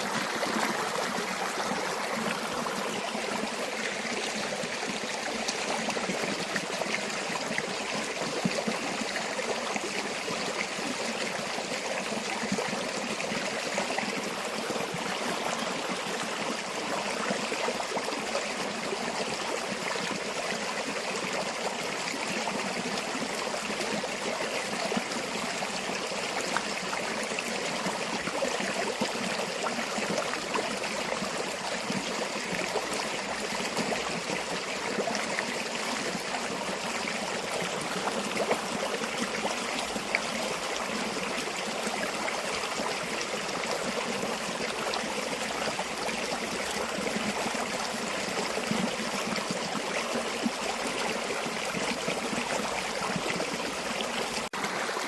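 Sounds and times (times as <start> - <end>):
stream burbling over stones: 0.0 - 55.0.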